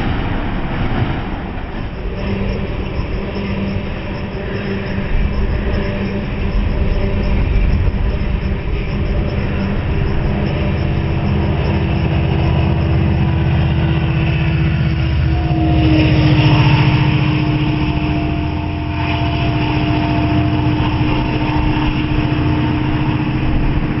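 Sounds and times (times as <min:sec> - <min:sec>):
diesel locomotive engine drone: 0:00.0 - 0:24.0
train rolling past: 0:00.0 - 0:24.0.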